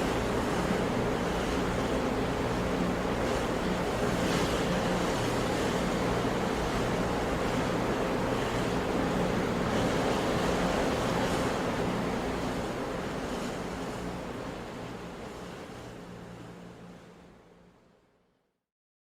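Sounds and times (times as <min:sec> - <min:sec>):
sea waves washing on shore: 0:00.0 - 0:16.9.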